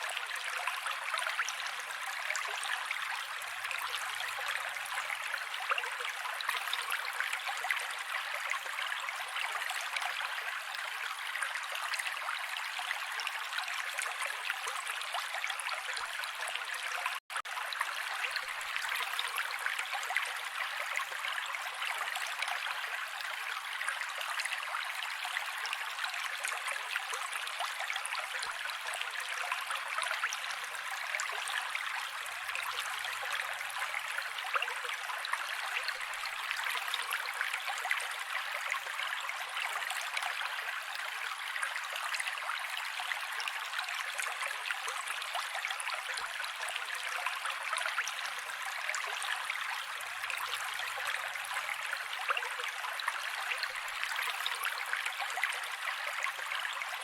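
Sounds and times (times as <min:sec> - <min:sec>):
creek flowing over rocks: 0:00.0 - 0:57.0.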